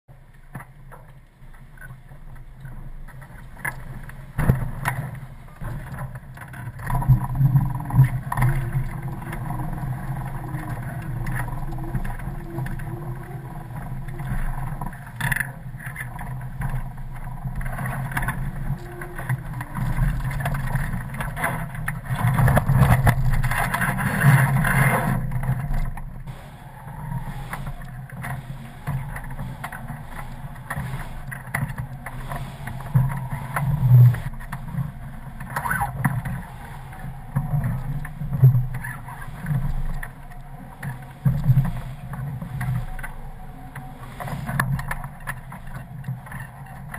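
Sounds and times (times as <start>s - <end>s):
wind and water rushing: 6.5s - 46.6s.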